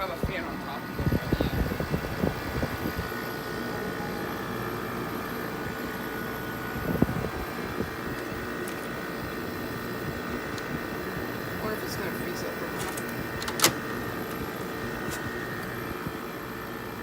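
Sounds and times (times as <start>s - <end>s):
air conditioner hum and whine: 0.0s - 17.0s.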